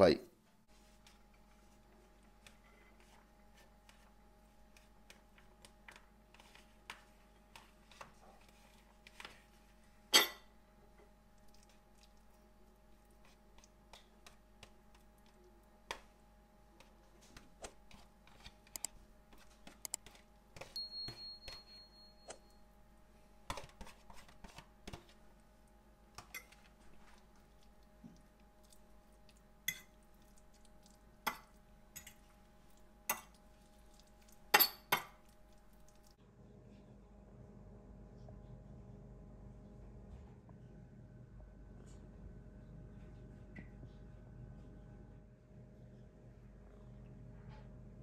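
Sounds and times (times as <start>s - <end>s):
faint steady hum: 0.4s - 48.0s.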